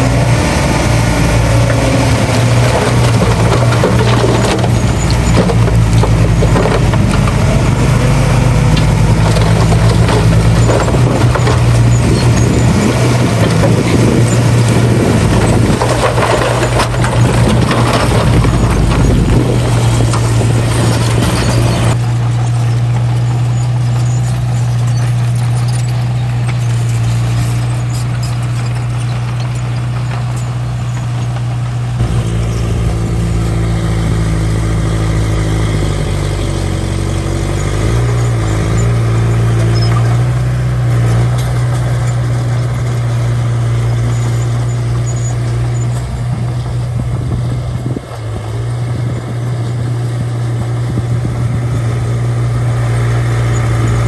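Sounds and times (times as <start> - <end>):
bulldozer diesel engine running: 0.0 - 54.0
heavy clatter and scraping: 0.0 - 54.0.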